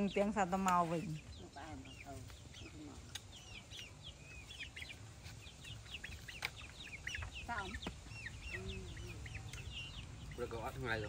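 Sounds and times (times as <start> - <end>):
chicken clucking: 0.0 - 11.0
chicks peeping: 0.0 - 11.0.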